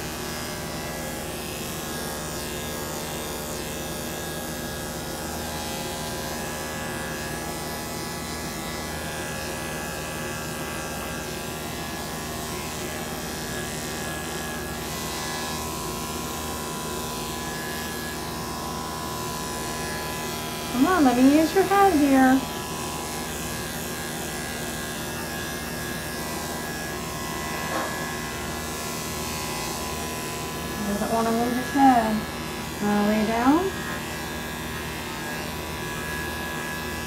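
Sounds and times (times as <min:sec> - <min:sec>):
electric clippers buzzing: 0:00.0 - 0:37.0.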